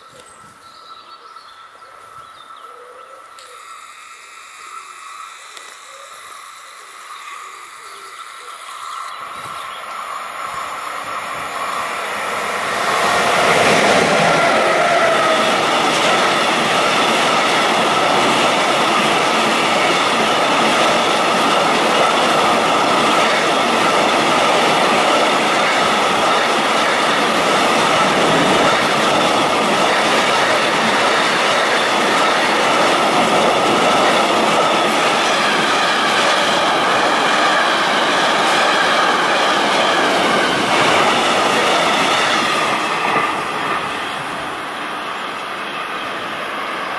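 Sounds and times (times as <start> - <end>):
freight train passing: 0.0 - 46.9
wheels rolling on rail: 3.4 - 46.9.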